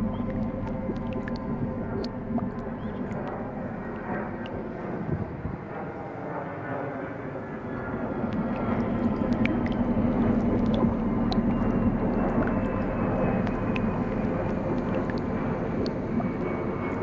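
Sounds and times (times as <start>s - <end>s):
faint high whine: 0.0s - 17.0s
jet engine roar: 0.0s - 17.0s.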